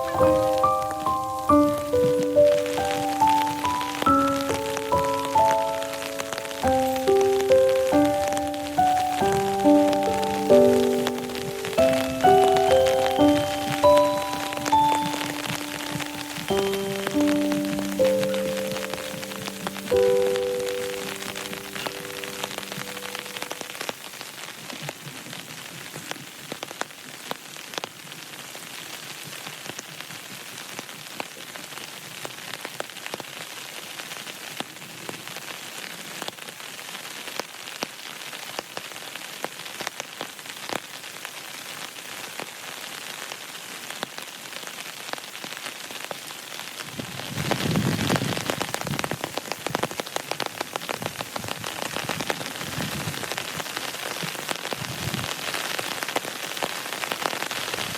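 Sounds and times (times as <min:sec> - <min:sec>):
rain drops striking: 0:00.0 - 0:57.9.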